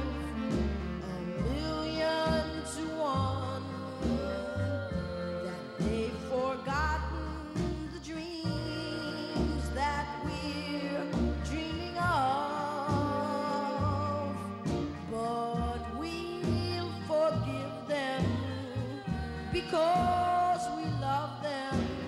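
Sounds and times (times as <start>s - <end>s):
person singing slow ballad: 0.0s - 22.0s.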